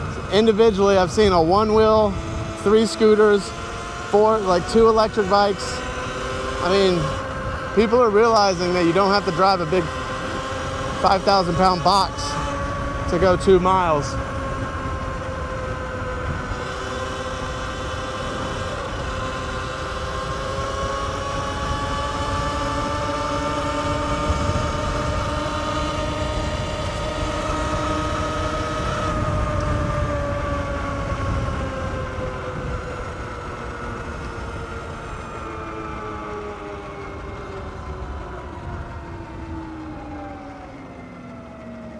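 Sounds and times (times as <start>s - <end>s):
electric motor whining: 0.0s - 41.9s.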